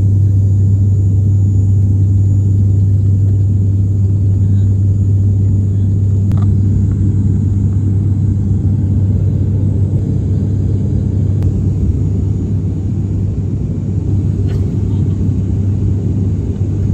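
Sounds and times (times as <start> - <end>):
turboprop engines droning: 0.0 - 16.9.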